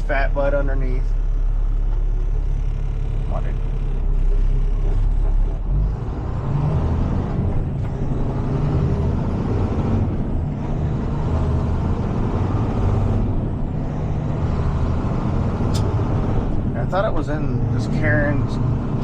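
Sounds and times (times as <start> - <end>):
diesel engine running: 0.0 - 19.0
road noise: 0.0 - 19.0.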